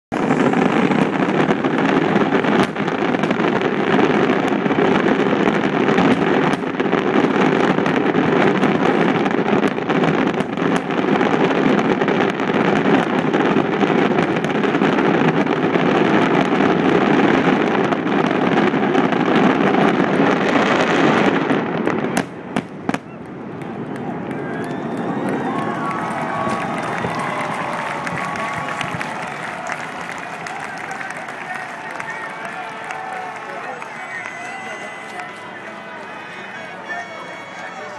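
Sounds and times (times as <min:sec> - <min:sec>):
fireworks bursting: 0:00.1 - 0:37.9.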